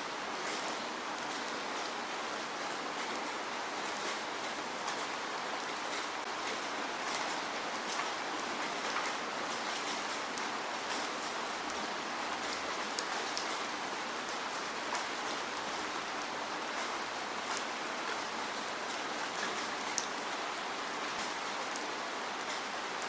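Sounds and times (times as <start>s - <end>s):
steady rainfall patter: 0.0s - 23.0s
raindrops striking a surface: 0.1s - 23.0s.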